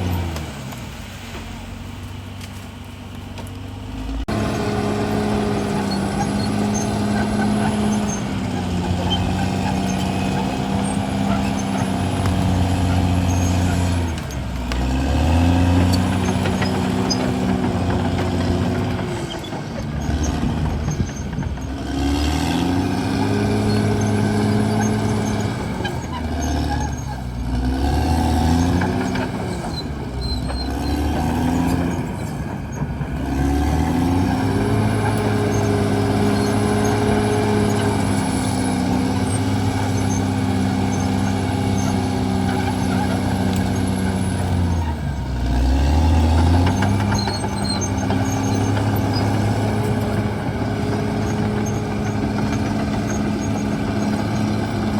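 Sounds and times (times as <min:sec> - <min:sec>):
bulldozer diesel engine running hard: 0:00.0 - 0:54.9.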